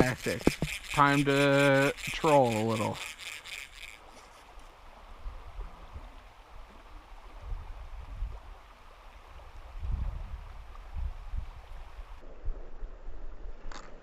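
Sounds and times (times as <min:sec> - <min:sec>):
stream water flowing: 0:00.0 - 0:12.4.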